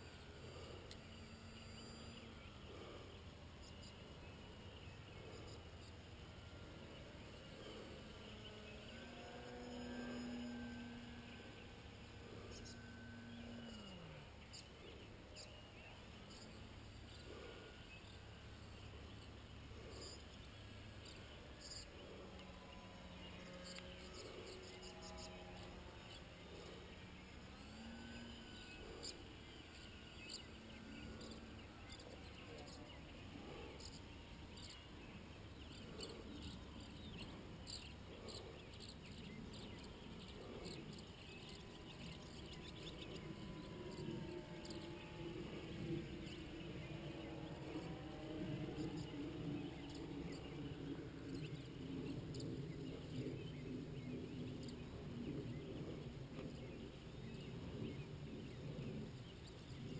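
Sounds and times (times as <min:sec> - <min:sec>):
insects chirping: 0:00.0 - 0:55.4
model plane motor whine: 0:00.0 - 0:59.9.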